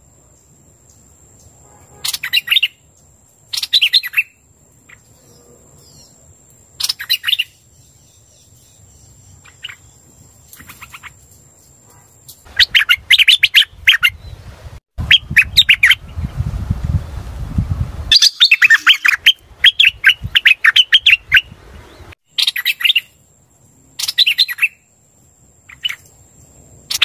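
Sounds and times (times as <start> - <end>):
bird chirping in bursts: 0.4 - 11.2, 12.4 - 16.5, 18.1 - 23.3, 23.9 - 24.9, 25.6 - 26.1, 26.8 - 27.0.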